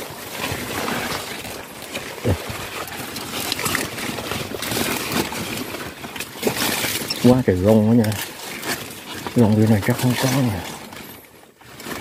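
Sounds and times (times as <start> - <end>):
leaves rustling and scraping: 0.0 - 12.0.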